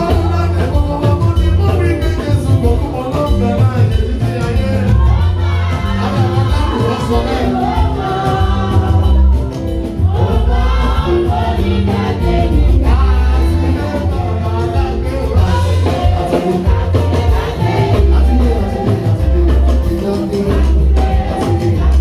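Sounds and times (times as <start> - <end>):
gospel singing voices: 0.0 - 22.0
heavy bass line: 0.0 - 22.0.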